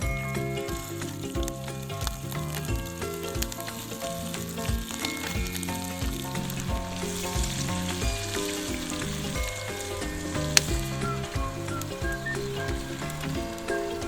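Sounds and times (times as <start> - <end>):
background music with a beat: 0.0 - 14.0
food sizzling in a pan: 1.8 - 14.0.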